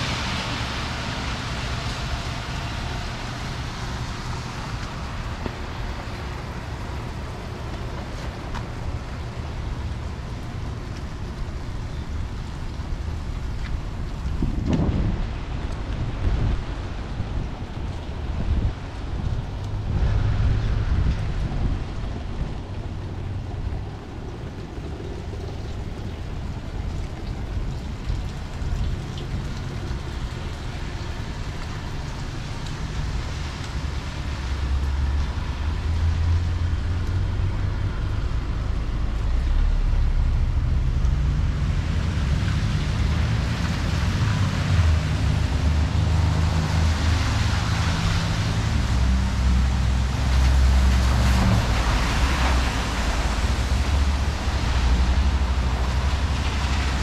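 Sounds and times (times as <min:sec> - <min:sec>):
rain hissing on street: 0:00.0 - 0:57.0
vehicle rumble: 0:00.0 - 0:57.0.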